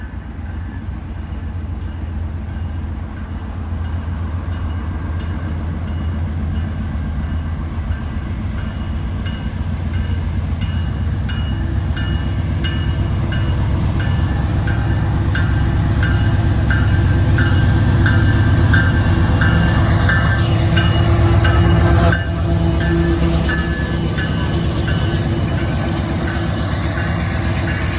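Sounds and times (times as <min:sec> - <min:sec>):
train heavy low rumble: 0:00.0 - 0:27.9.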